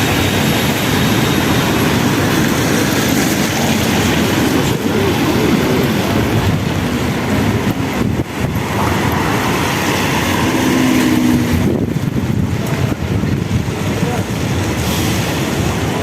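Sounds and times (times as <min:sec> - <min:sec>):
street traffic going by: 0:00.0 - 0:16.0.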